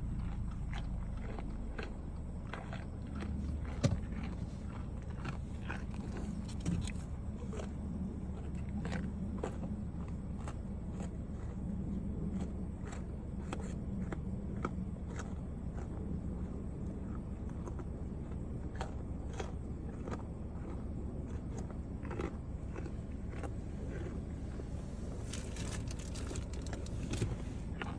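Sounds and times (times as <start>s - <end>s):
deer chewing carrots: 0.0s - 27.9s
steady low hum: 0.0s - 27.9s.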